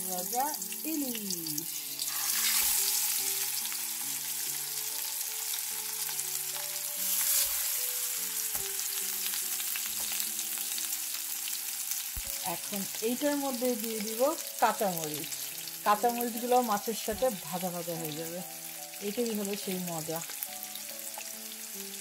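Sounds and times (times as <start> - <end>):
fish frying in oil: 0.0 - 22.0
soft background music: 0.0 - 22.0.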